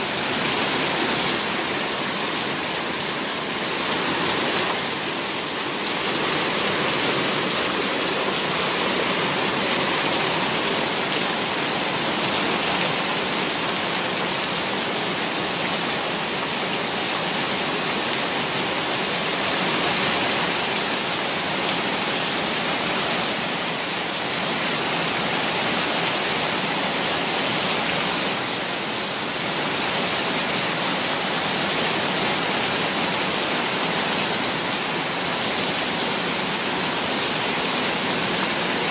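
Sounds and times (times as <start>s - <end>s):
floodwater rushing over concrete: 0.0s - 38.9s.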